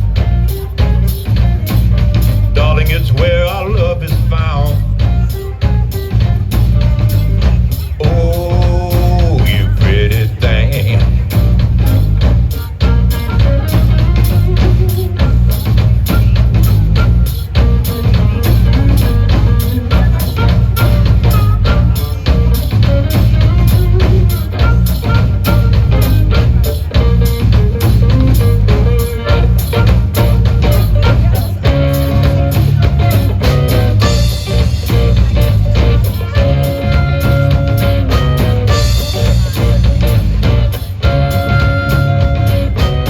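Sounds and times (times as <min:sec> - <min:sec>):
bass guitar: 0:00.0 - 0:43.0
drum kit steady beat: 0:00.0 - 0:43.0
electric guitar: 0:00.0 - 0:43.0
held lead guitar notes: 0:00.0 - 0:43.0.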